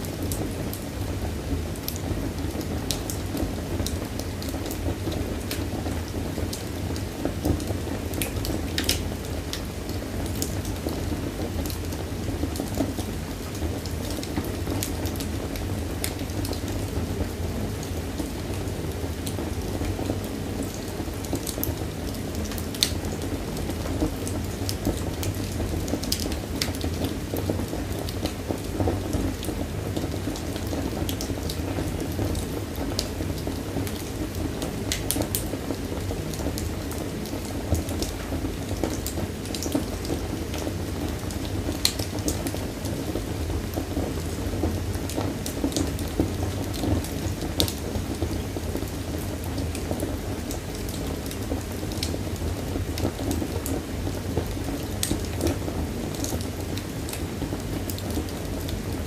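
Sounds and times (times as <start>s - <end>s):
fire flames rumbling: 0.0s - 59.0s.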